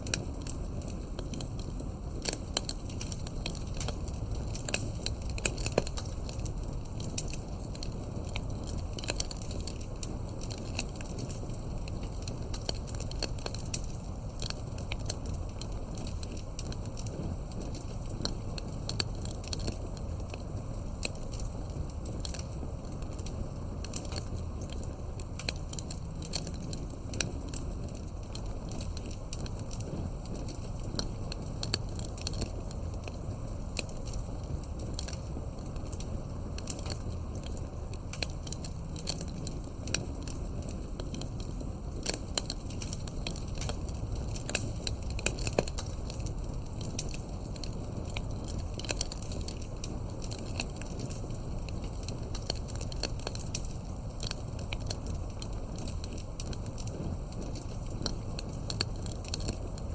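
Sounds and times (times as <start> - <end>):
crackles and pops of burning wood: 0.0 - 59.9
low rumble of flame: 0.0 - 59.9.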